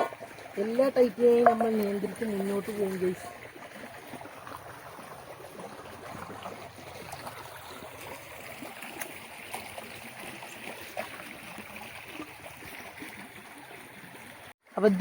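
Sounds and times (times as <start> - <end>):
shallow water trickling: 0.0 - 15.0.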